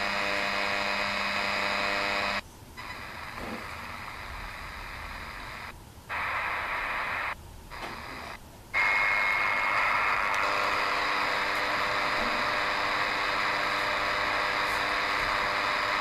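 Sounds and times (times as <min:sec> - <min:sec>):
buzzing radio signal: 0:00.0 - 0:16.0
radio static hiss: 0:00.0 - 0:16.0.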